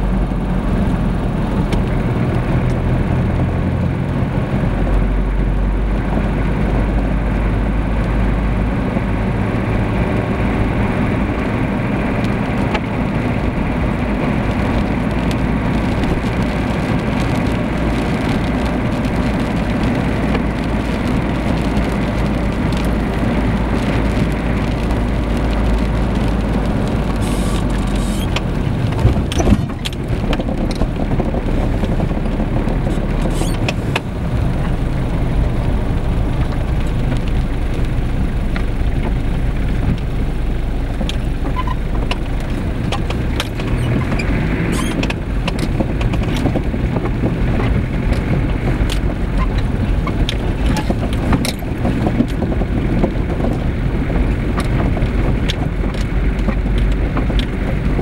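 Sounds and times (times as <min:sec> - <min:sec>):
car engine and tyre rumble: 0:00.0 - 0:58.0
tyres on dirt road: 0:00.0 - 0:58.0.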